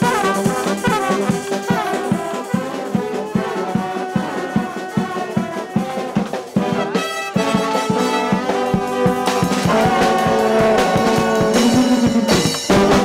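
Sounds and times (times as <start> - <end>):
brass band playing: 0.0 - 13.0
drums keeping a steady beat: 0.0 - 13.0.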